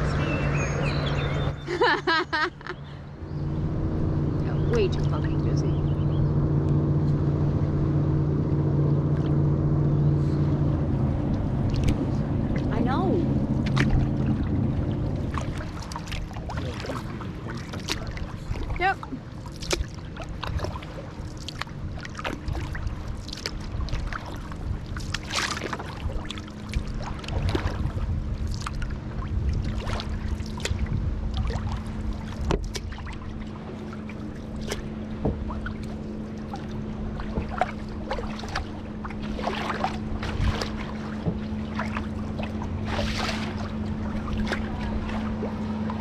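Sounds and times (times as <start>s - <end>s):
paddles swishing through water: 0.0s - 46.0s
steady low hum: 0.0s - 46.0s
wind rumbling on microphone: 2.6s - 46.0s.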